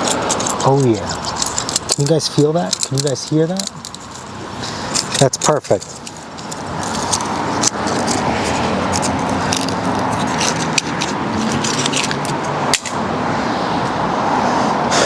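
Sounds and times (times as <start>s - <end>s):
metal tools clicking and scraping: 0.0s - 13.0s
vehicle engine hum: 0.0s - 15.0s.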